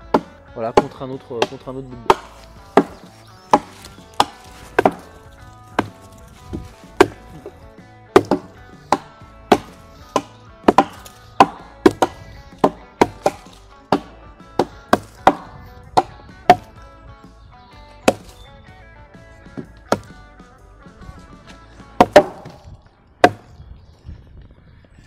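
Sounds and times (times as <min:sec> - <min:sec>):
background music: 0:00.0 - 0:23.6.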